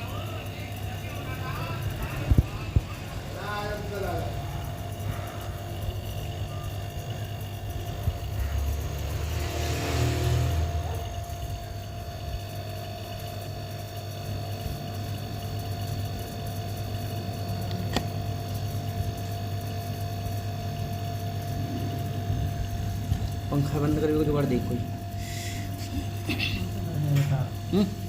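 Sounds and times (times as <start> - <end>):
electric motor humming: 0.0 - 28.0.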